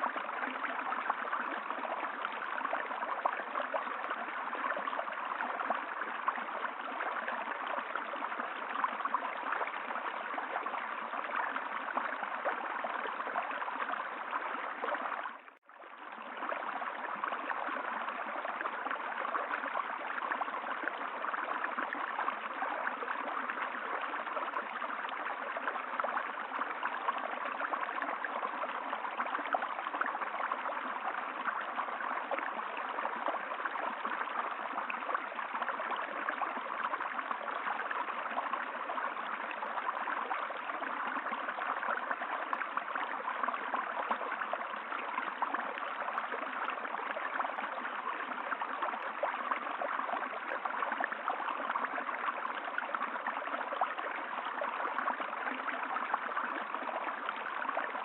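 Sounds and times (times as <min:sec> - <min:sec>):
stream babbling and gurgling: 0:00.0 - 0:58.0.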